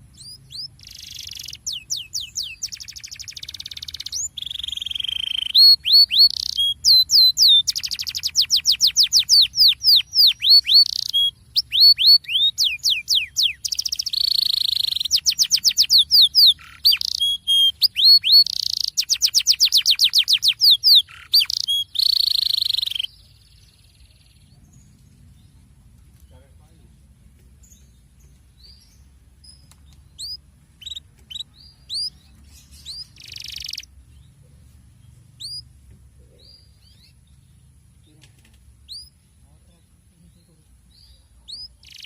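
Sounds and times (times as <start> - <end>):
canary singing trills: 0.0 - 26.9, 27.6 - 42.0.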